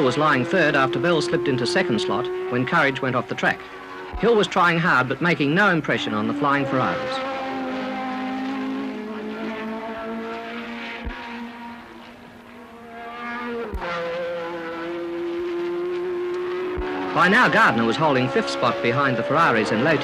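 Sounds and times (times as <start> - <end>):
racing car engines at high revs: 0.0 - 20.0.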